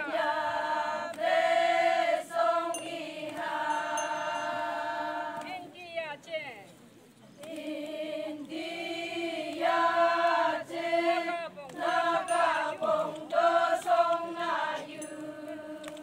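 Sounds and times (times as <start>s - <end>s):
women singing a folk chant: 0.0s - 6.6s, 7.4s - 16.0s.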